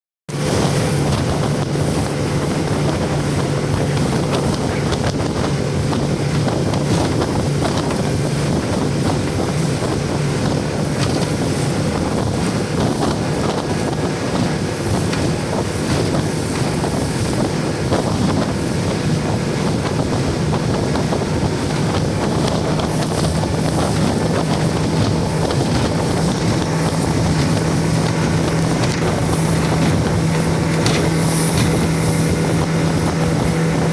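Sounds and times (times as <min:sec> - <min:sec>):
motorboat engine running: 0:00.3 - 0:33.9
water rushing past hull: 0:00.3 - 0:33.9
wind buffeting microphone: 0:00.3 - 0:33.9.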